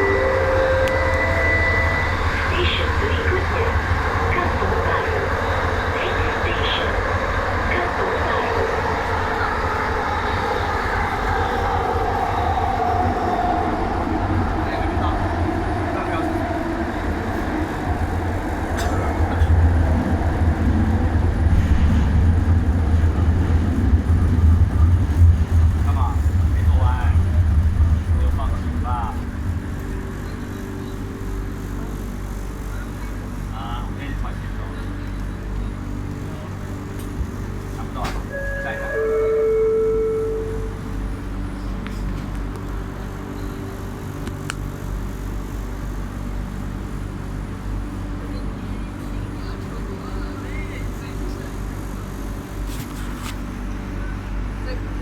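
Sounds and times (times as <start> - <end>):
train rumble on track: 0.0 - 55.0.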